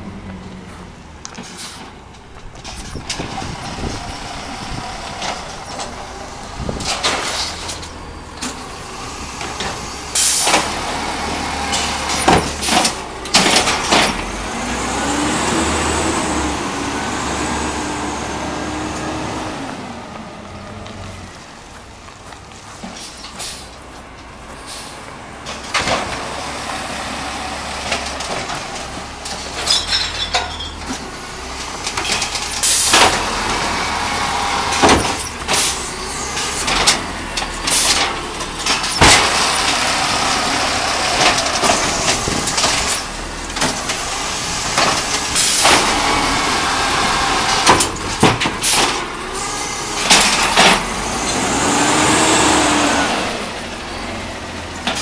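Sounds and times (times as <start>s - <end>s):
clanks and bangs of carts: 0.0s - 16.5s, 20.8s - 55.0s
garbage truck engine running: 0.0s - 55.0s.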